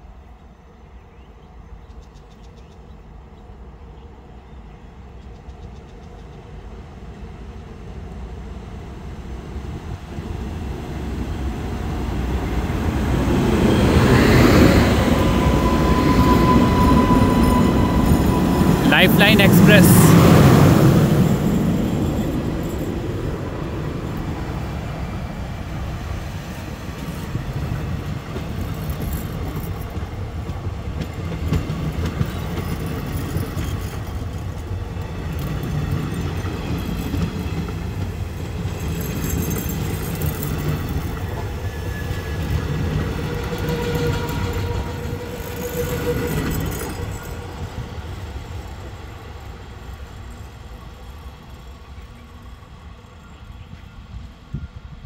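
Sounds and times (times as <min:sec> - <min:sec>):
train coaches rumbling past: 0:03.0 - 0:55.0.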